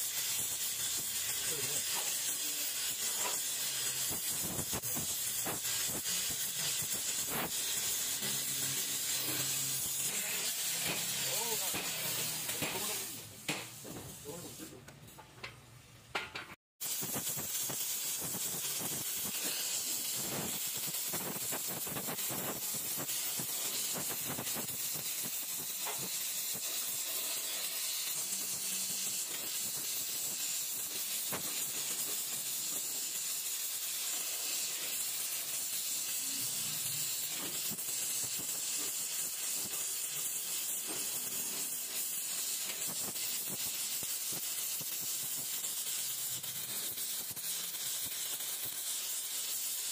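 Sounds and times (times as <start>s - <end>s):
welding torch flame hissing: 0.0s - 15.2s, 16.8s - 49.9s.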